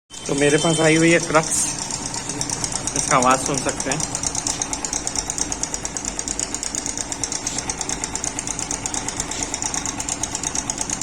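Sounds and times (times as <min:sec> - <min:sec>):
metallic ticking rattle: 0:00.1 - 0:11.0
motorcycle engine idling: 0:00.3 - 0:11.0.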